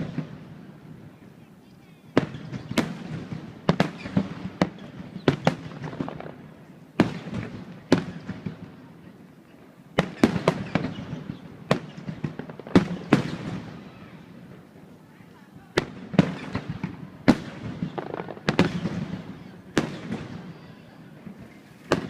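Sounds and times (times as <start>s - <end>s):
fireworks bursting with echo: 0.0s - 22.0s.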